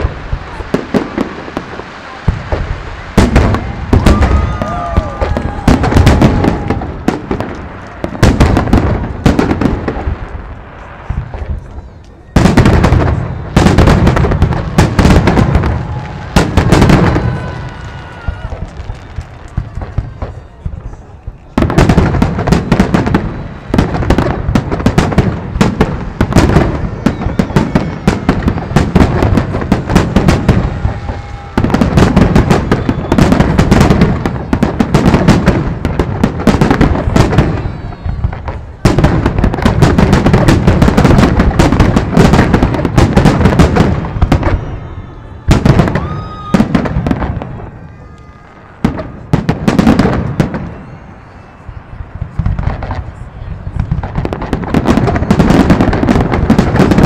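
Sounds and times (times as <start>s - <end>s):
firework shells bursting and crackling: 0.0s - 57.0s.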